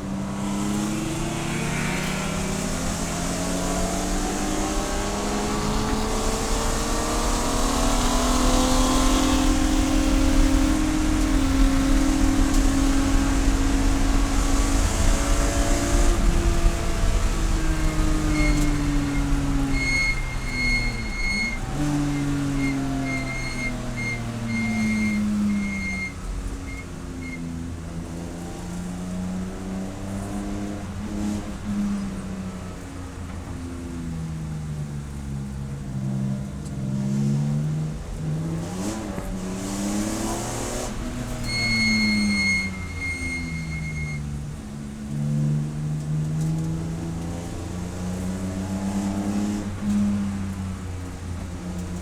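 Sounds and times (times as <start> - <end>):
race car engine: 0.0 - 52.0.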